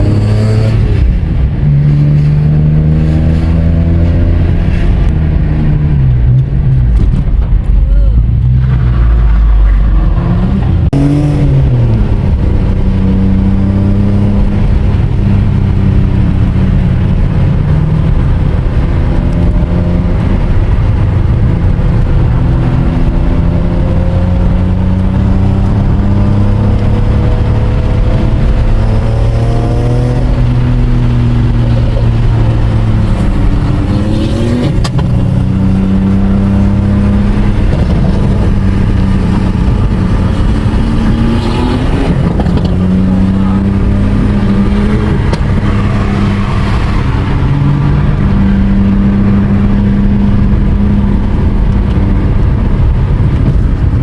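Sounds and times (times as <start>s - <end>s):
race car engine revving: 0.0s - 7.3s, 8.3s - 54.0s.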